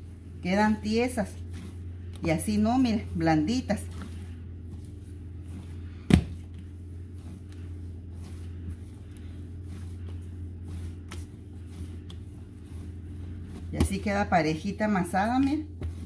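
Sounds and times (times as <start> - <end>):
dough being kneaded by hand: 0.0 - 16.0
steady low hum: 0.0 - 16.0.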